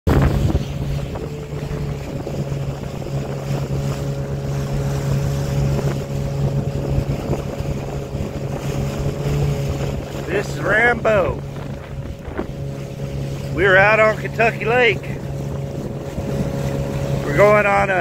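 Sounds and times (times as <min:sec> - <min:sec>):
outboard motor running: 0:00.1 - 0:18.0.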